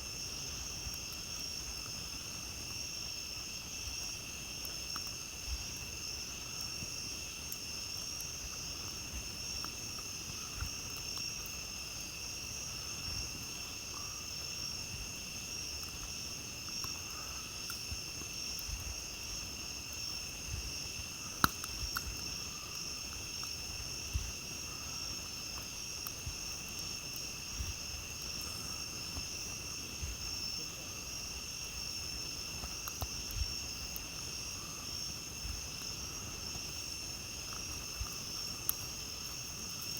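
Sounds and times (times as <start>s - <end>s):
campfire crackling: 0.0s - 39.9s
night insects trilling: 0.0s - 39.9s.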